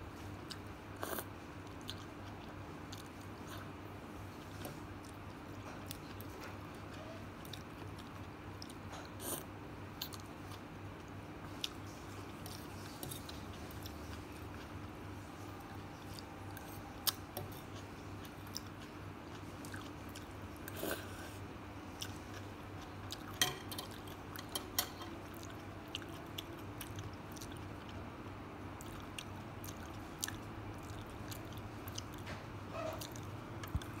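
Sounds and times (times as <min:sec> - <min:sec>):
faint steady hum: 0:00.0 - 0:34.0
person chewing noodles: 0:00.2 - 0:24.6, 0:25.2 - 0:28.0, 0:28.8 - 0:34.0.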